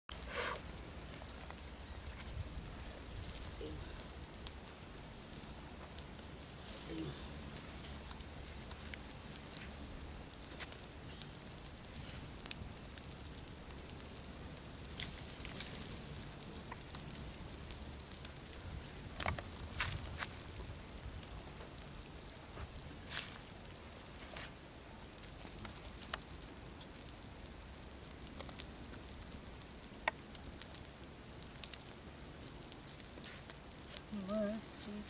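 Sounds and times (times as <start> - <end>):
faint hiss: 0.1 - 35.0
twig fire crackling and popping: 0.1 - 35.0.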